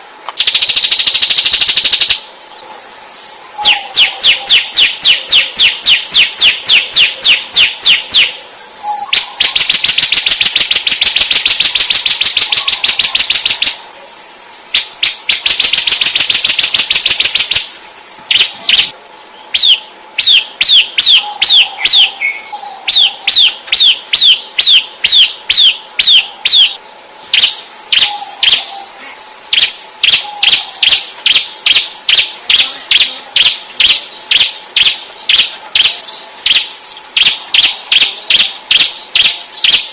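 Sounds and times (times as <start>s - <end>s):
high insect-like buzz: 0.0s - 19.0s, 22.9s - 39.9s
songbird chirping and trilling: 0.3s - 39.9s.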